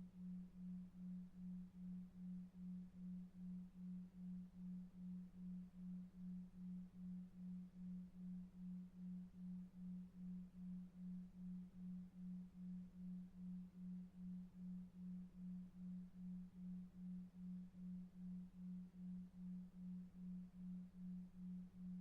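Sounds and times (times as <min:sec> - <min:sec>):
faint low noise: 0:00.0 - 0:22.0.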